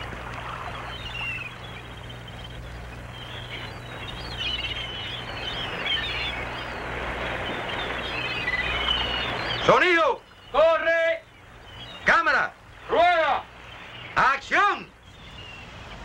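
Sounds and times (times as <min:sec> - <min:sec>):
birds chirping: 0:00.0 - 0:16.0
low steady hum: 0:00.0 - 0:16.0
outdoor background noise: 0:00.0 - 0:16.0.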